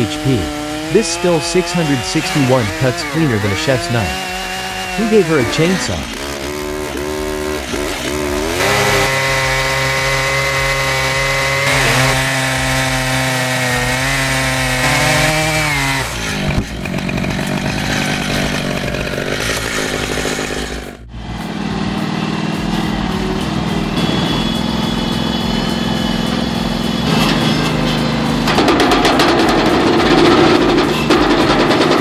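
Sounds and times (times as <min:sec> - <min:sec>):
chainsaw revving: 0:00.0 - 0:32.0.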